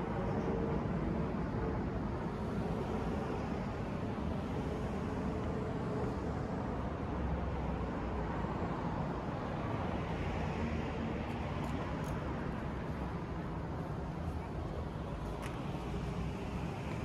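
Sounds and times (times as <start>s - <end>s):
low rumble of road traffic: 0.0s - 17.0s.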